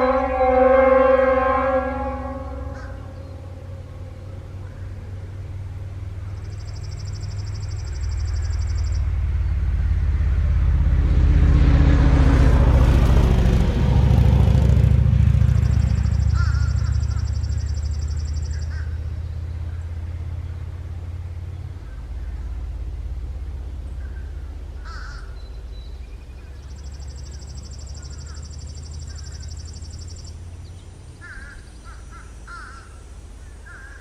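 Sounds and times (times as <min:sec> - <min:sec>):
vehicle engine rumble passing by: 0:00.0 - 0:34.0.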